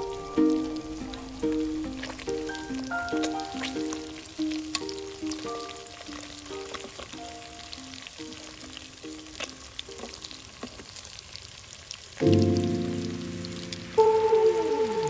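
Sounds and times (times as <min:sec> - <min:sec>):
background music: 0:00.0 - 0:10.1, 0:12.2 - 0:15.0
fish sizzling in hot oil: 0:00.0 - 0:15.0.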